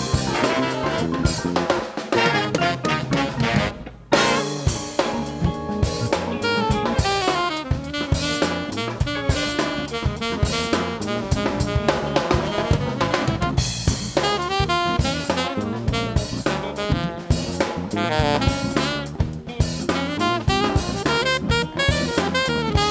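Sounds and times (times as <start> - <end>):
drum kit groove: 0.0 - 22.9
live funk band playing: 0.0 - 22.9
saxophone: 0.0 - 22.9.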